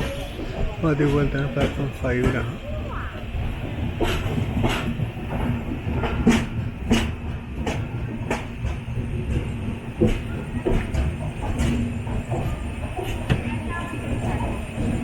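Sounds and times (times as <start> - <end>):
wheel clacks over rail joints: 0.0 - 2.6, 3.4 - 15.0
train coach rumbling: 0.0 - 15.0.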